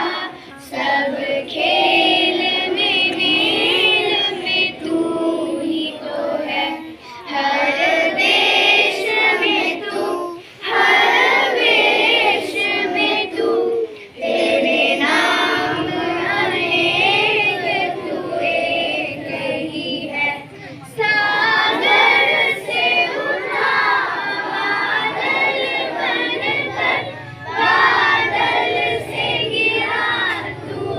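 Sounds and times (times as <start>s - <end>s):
children singing together: 0.0s - 30.9s.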